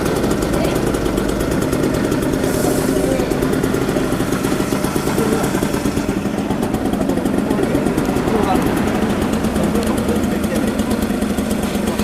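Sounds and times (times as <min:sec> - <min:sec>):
moped engine idling: 0:00.0 - 0:12.0.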